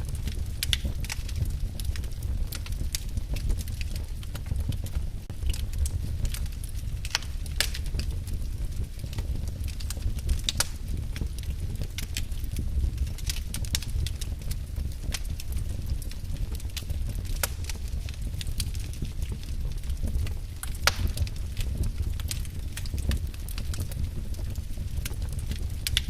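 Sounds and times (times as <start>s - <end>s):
fire flames rumbling: 0.0s - 26.0s
wood crackling and popping: 0.0s - 26.0s.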